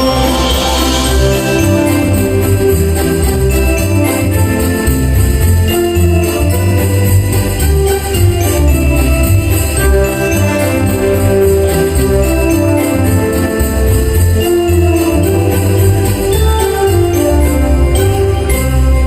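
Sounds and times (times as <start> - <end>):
held instrumental notes: 0.0 - 19.0
jingle bells shaken: 0.0 - 19.0.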